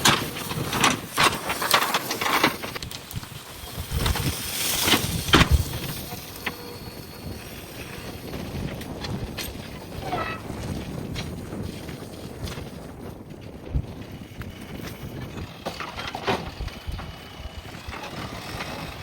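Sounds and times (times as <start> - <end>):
backhoe loader working: 0.0 - 19.0.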